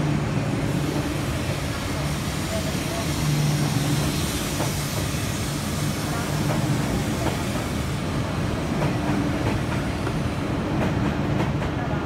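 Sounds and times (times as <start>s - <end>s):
train rushing rumble and hum: 0.0s - 12.0s.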